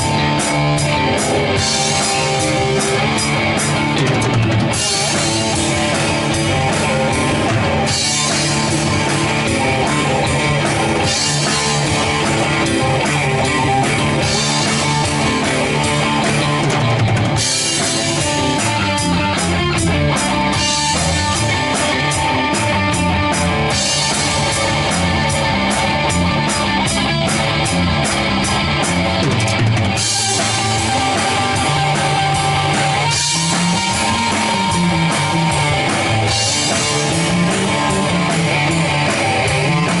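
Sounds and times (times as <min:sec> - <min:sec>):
held guitar notes: 0:00.0 - 0:40.0
rock band jam: 0:00.0 - 0:40.0.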